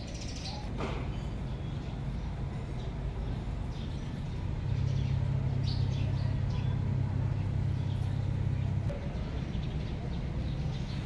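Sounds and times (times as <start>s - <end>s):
low motor hum: 1.0s - 11.0s.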